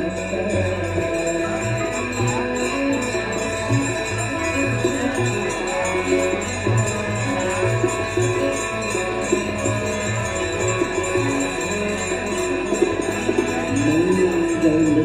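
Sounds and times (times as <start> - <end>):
devotional music: 0.0 - 15.0
jingling metal percussion: 0.0 - 15.0.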